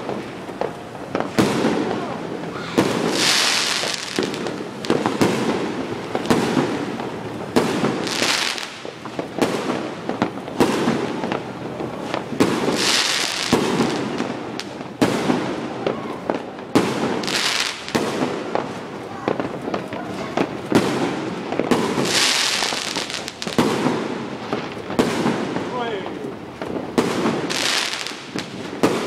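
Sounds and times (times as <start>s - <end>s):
fireworks bangs: 0.0s - 29.0s
fireworks hiss: 0.0s - 29.0s.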